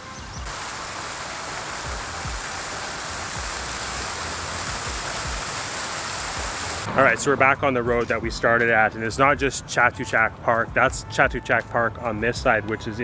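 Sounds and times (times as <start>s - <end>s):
running water rushing: 0.3s - 11.2s.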